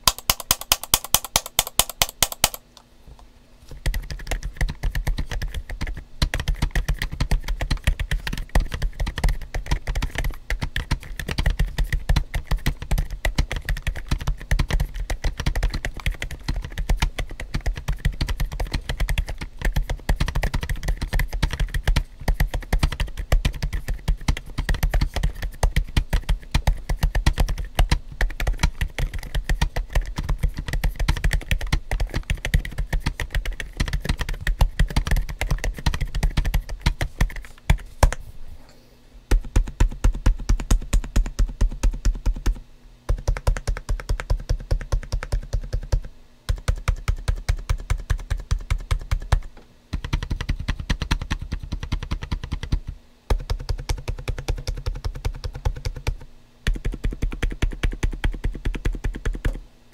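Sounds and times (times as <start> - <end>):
soft mechanical keyboard typing: 0.0 - 2.6, 3.8 - 37.8, 39.3 - 59.6.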